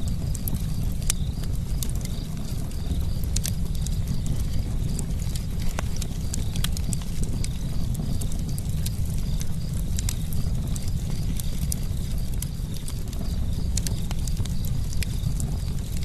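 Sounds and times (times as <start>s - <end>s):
campfire low rumble: 0.0s - 16.0s
wood crackling and popping: 0.0s - 16.0s.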